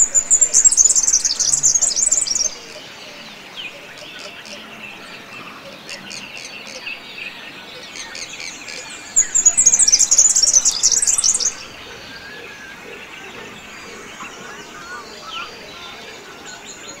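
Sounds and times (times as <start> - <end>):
rapid high-pitched bird song: 0.0 - 4.6, 6.0 - 17.0
birds calling in chorus: 0.0 - 17.0.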